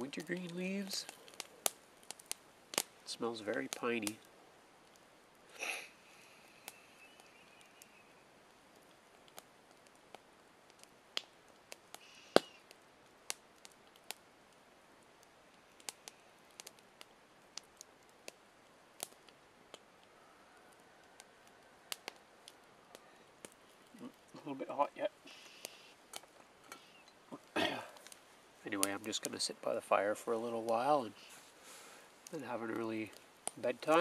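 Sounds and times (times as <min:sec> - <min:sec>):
campfire crackling and popping: 0:00.0 - 0:34.0
faint hiss: 0:00.0 - 0:34.0.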